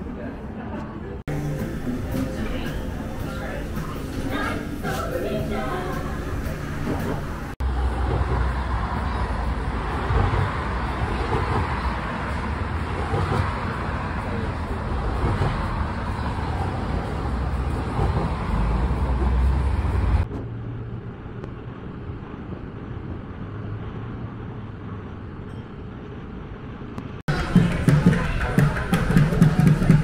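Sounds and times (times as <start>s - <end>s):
quiet street ambience: 0.0s - 30.0s
passing cars rumbling: 1.2s - 25.4s.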